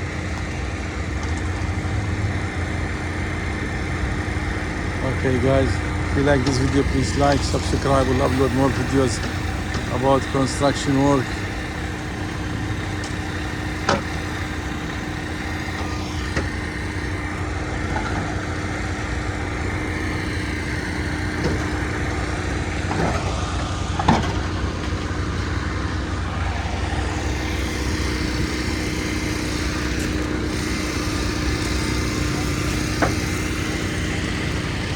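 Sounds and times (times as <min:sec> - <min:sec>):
concrete mixer truck engine running: 0:00.0 - 0:34.9.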